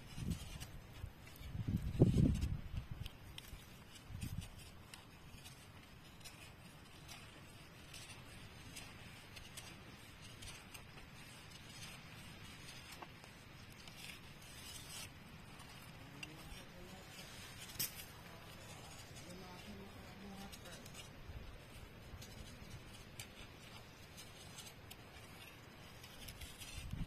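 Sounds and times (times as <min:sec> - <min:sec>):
knife scraping wooden stick: 0:00.0 - 0:27.0.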